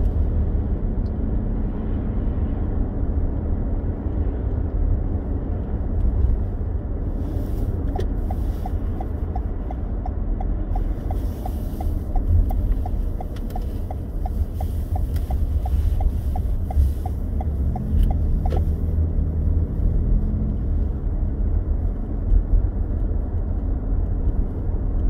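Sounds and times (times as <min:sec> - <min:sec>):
car road and engine rumble: 0:00.0 - 0:25.0
turn signal ticking: 0:03.4 - 0:25.0.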